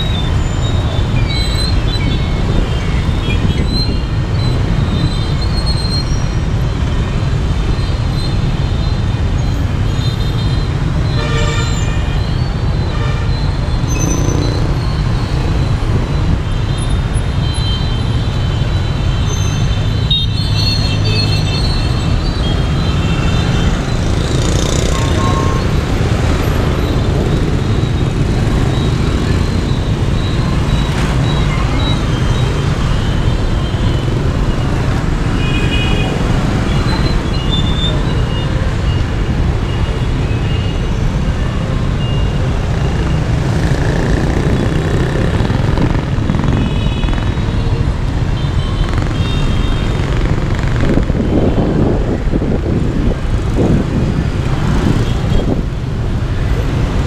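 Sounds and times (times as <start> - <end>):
motorbike traffic passing: 0.0 - 57.0.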